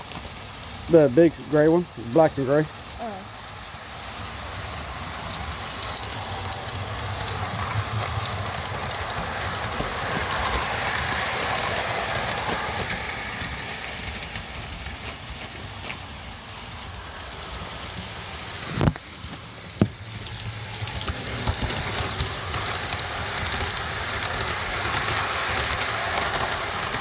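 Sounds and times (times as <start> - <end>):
model train rumbling on track: 0.0 - 27.0
wheel clicks: 3.9 - 27.0.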